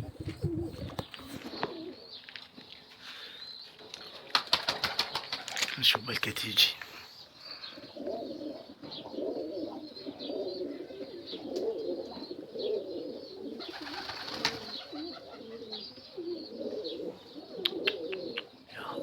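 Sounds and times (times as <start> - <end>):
pigeons cooing: 0.0 - 5.7, 7.2 - 19.0.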